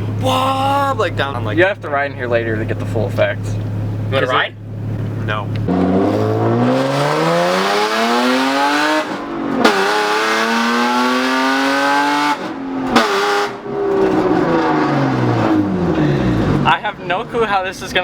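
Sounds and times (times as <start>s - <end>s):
car engine accelerating hard: 0.0s - 17.5s.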